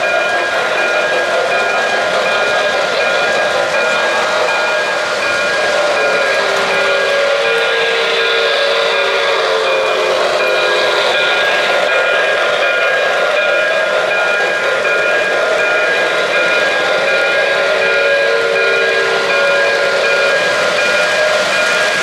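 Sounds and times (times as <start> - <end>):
model train chime whistle: 0.0 - 22.0
model train wheels rumbling: 0.0 - 22.0.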